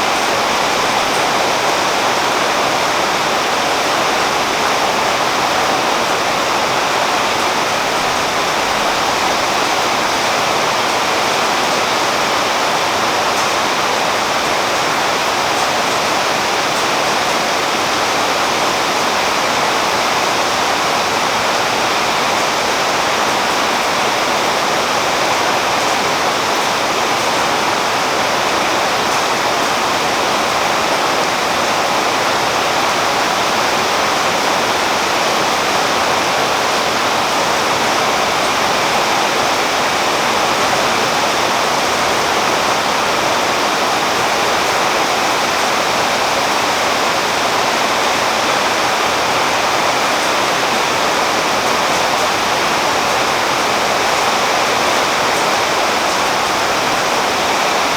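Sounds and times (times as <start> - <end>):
rain on leaves: 0.0 - 57.9.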